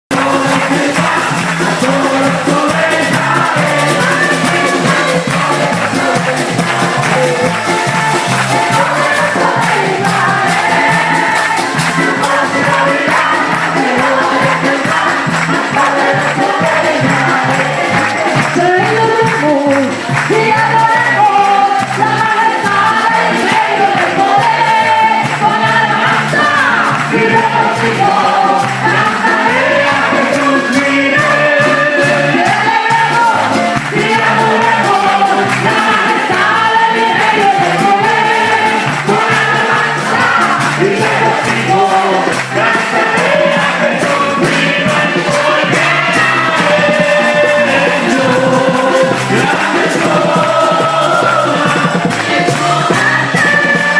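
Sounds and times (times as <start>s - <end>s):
group of voices singing: 0.1s - 53.9s
percussive beat: 0.1s - 53.9s.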